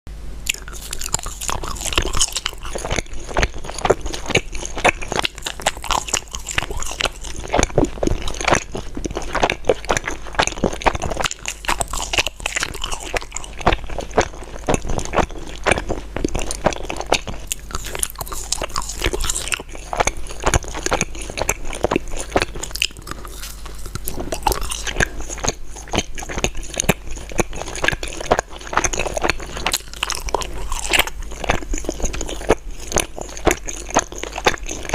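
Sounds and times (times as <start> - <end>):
chewing gummy candies: 0.4 - 34.9.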